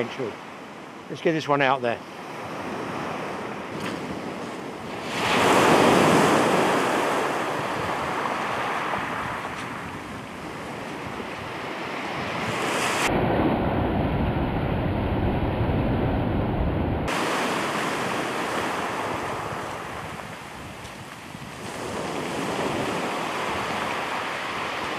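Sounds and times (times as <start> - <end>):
sea surf breaking on shore: 0.0 - 24.9
wind buffeting microphone: 2.3 - 24.9.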